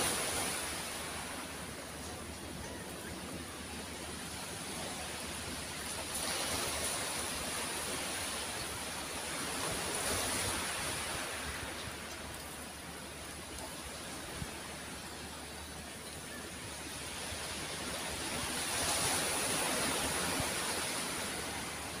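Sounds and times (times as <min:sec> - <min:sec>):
sea waves washing ashore: 0:00.0 - 0:22.0.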